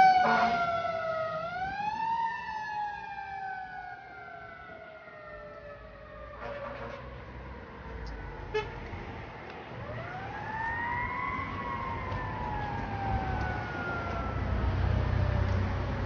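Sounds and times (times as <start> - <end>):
fire truck siren wailing: 0.0 - 9.2, 9.8 - 16.0
traffic rumble: 0.0 - 16.0.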